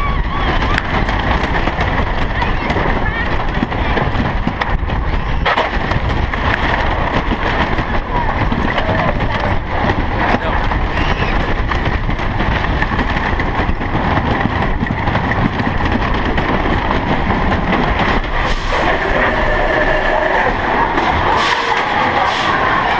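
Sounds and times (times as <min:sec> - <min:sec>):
roller coaster wheels rattling on rails: 0:00.0 - 0:22.9
wind on microphone: 0:00.0 - 0:22.9.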